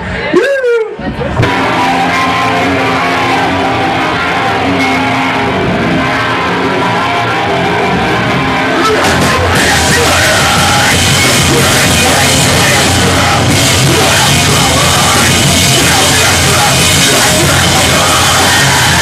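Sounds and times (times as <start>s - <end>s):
distorted electric guitar: 1.0s - 19.0s
live metal band playing: 1.3s - 19.0s.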